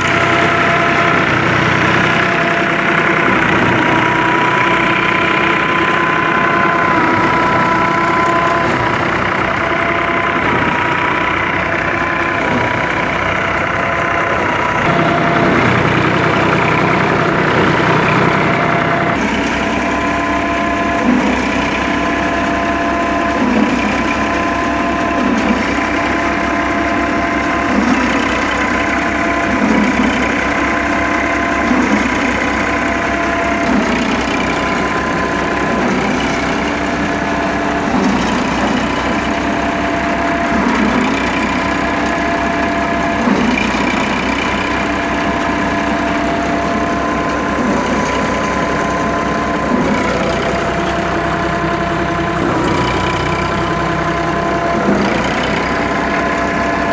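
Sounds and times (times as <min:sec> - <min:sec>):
thresher drum whine: 0:00.0 - 0:56.9
tractor diesel engine running: 0:00.0 - 0:56.9.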